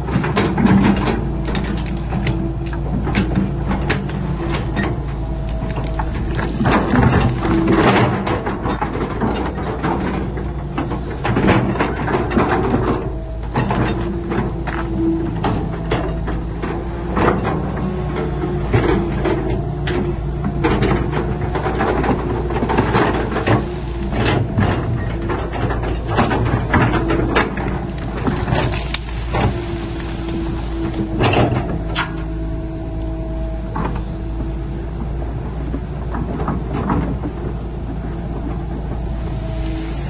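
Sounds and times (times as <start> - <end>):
excavator engine running: 0.0 - 40.0.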